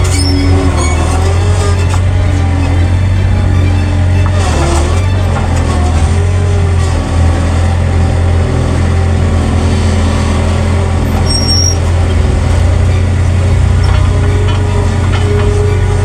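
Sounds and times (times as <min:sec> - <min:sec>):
large vehicle engine droning: 0:00.0 - 0:16.0.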